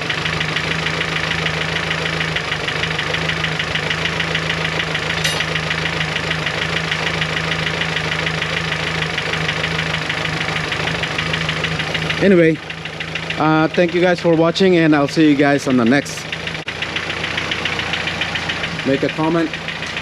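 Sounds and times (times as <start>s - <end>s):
car engine idling with ticking: 0.0s - 20.0s.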